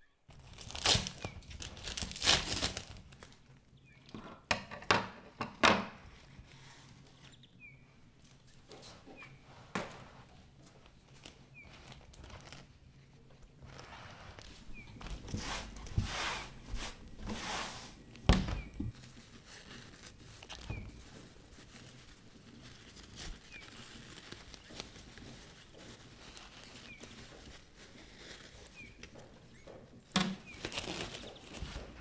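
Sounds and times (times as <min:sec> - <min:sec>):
paper and plastic wrapping crinkling: 0:00.3 - 0:04.1, 0:08.2 - 0:32.0.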